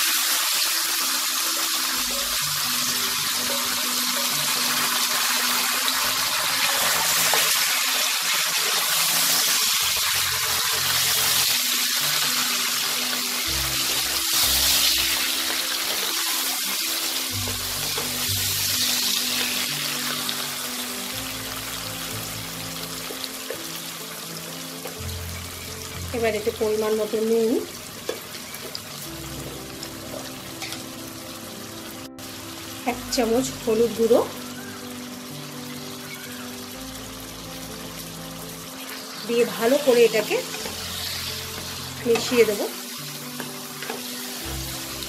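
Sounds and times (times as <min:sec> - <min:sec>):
background music: 0:00.0 - 0:45.0
leaves sizzling in hot oil: 0:00.0 - 0:45.0.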